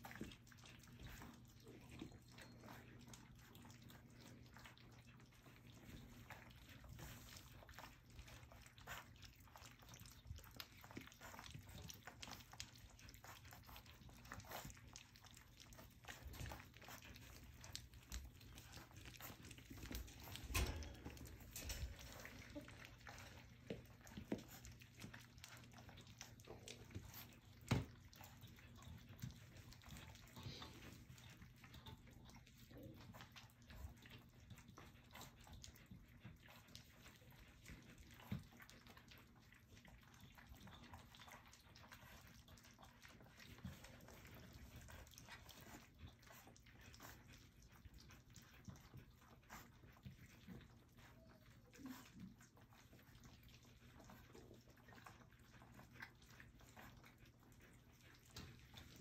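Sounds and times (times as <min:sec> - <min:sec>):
puppies lapping and slurping: 0:00.0 - 0:59.0.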